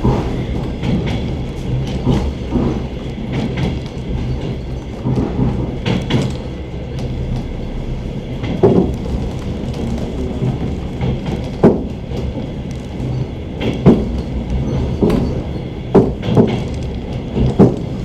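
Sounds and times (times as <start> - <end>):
train carriage rumble: 0.0 - 18.0
train wheels clacking over joints: 0.0 - 18.0.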